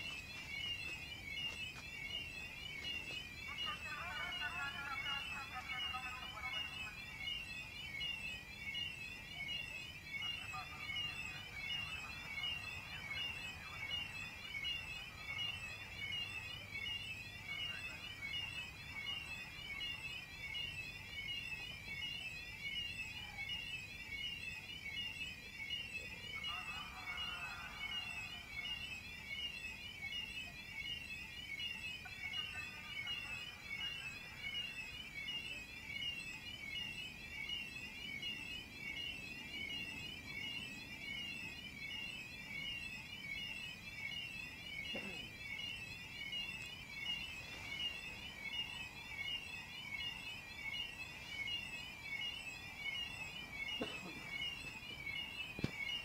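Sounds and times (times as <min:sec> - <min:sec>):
electronic warning siren wailing: 0:00.0 - 0:56.0.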